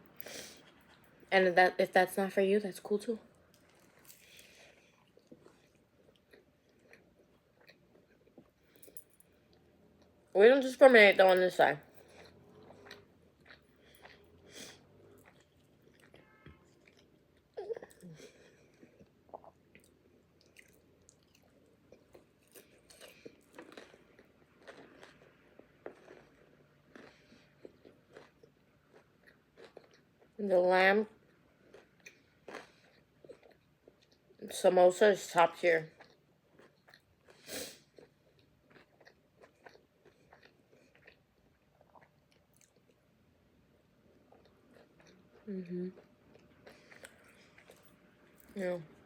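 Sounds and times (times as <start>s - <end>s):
person chewing food: 3.4s - 10.2s, 11.9s - 30.4s, 31.2s - 34.4s, 35.9s - 43.2s, 43.8s - 49.0s.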